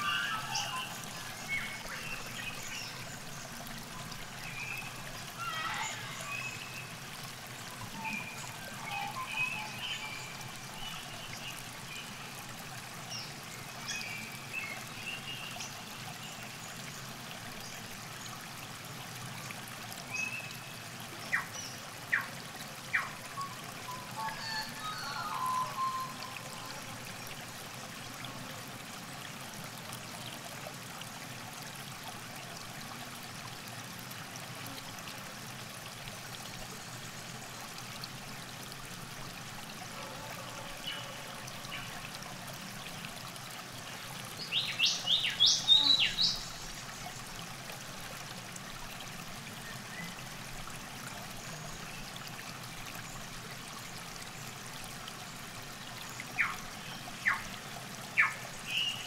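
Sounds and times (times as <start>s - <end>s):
river water trickling: 0.0s - 59.0s.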